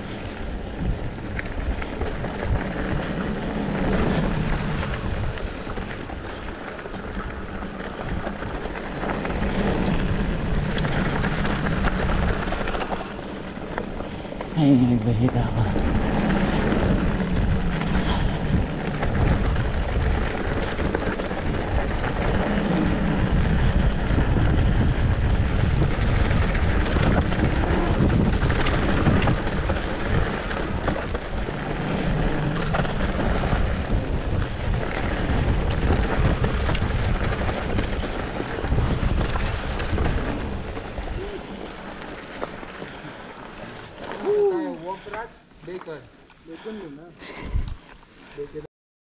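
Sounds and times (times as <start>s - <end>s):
wind buffeting microphone: 0.0s - 45.4s, 47.3s - 48.6s
mountain bike tyres and rattling frame: 0.0s - 48.7s.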